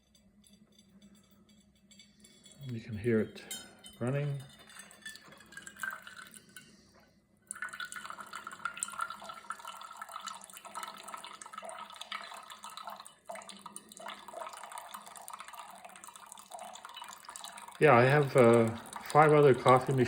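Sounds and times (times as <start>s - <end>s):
coffee dripping into cup: 0.0s - 20.0s.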